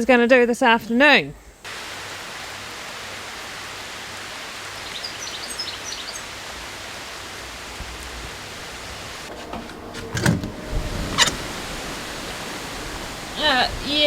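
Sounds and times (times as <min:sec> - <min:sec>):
steady rain hissing: 0:00.6 - 0:14.0.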